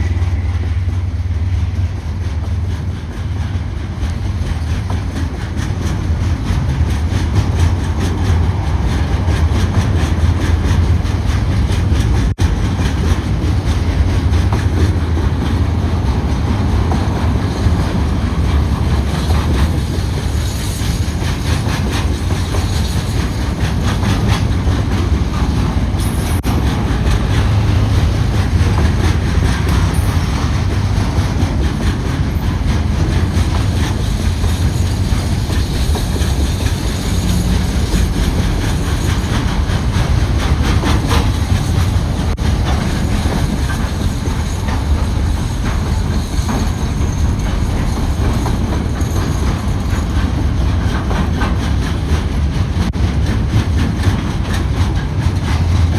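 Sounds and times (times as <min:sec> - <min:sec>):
freight train rumbling: 0:00.0 - 0:55.9
wheels clacking over rail joints: 0:00.0 - 0:55.9.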